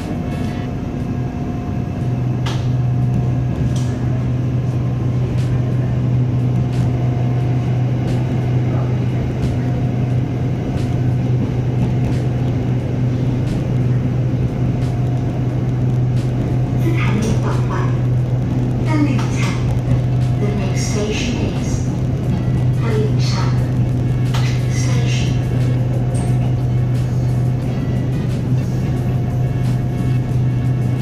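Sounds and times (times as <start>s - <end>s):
train motors and wheels humming: 0.0s - 31.0s.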